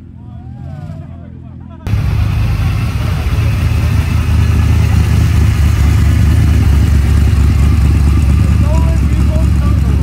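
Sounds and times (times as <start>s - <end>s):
car engine exhaust rumble: 1.9s - 10.0s.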